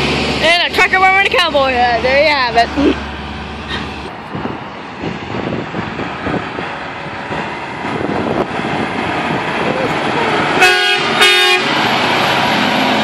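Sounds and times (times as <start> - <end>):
road traffic rushing past: 0.0 - 13.0.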